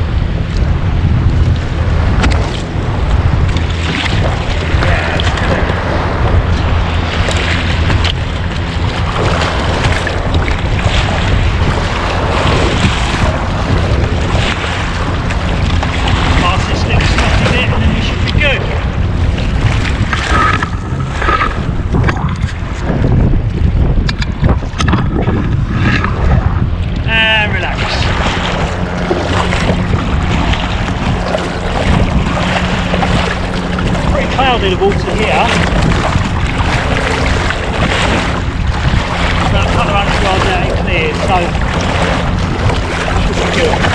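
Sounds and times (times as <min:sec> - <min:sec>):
wind on microphone: 0:00.0 - 0:43.9
paddle splashing in water: 0:01.4 - 0:43.9
small breaking waves: 0:01.5 - 0:23.6, 0:24.4 - 0:43.9.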